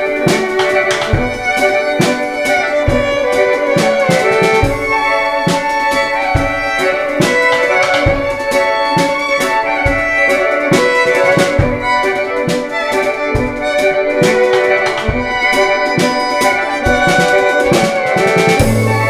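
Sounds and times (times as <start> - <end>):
bowed violin notes: 0.0 - 19.0
snare and cymbal strikes: 0.0 - 19.0.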